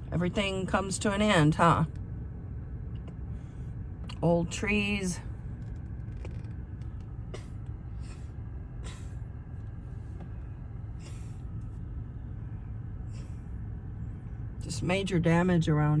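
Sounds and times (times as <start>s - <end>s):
car road rumble: 0.0s - 16.0s.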